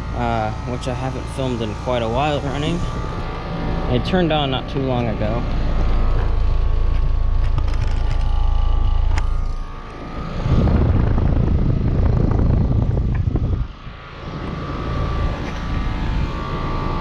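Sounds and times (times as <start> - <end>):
loud low rush of air: 0.0 - 7.4, 8.9 - 17.0
condenser fan blowing: 0.0 - 17.0
heat pump compressor humming: 0.0 - 17.0.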